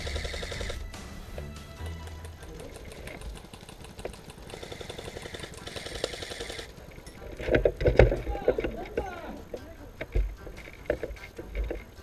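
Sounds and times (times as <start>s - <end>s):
airsoft rifles firing bursts: 0.0s - 12.0s.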